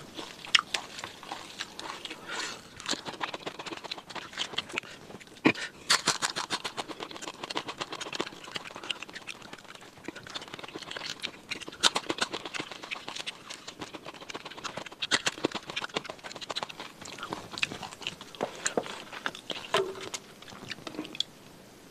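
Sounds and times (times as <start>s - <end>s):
man chewing and lip-smacking: 0.0s - 21.4s.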